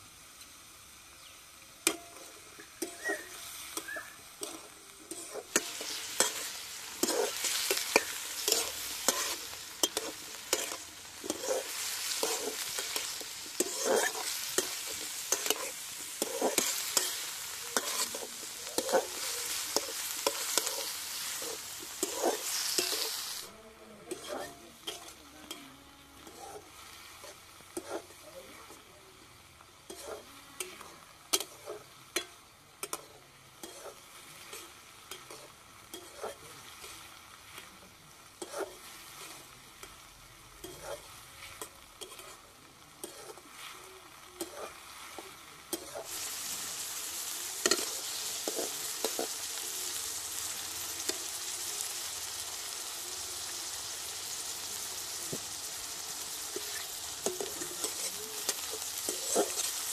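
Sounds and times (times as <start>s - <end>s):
frying sizzle: 0.0s - 59.9s
metal spatula scraping wok: 1.8s - 28.9s, 29.8s - 59.9s.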